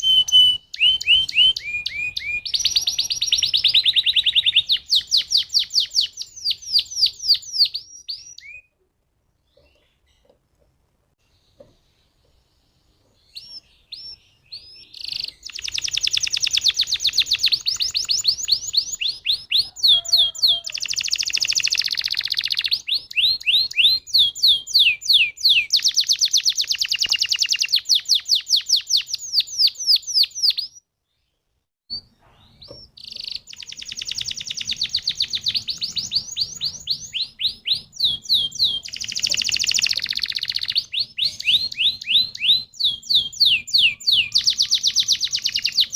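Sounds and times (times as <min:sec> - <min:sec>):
canary singing trills: 0:00.0 - 0:08.8, 0:11.3 - 0:30.8, 0:31.9 - 0:45.9.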